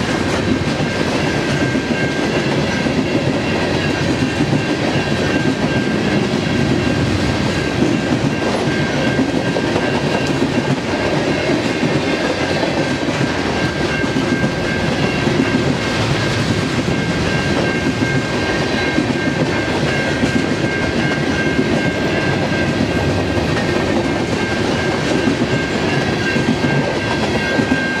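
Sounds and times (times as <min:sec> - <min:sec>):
train wheels clicking over rails: 0:00.0 - 0:28.0
steady high ringing tone: 0:00.7 - 0:28.0.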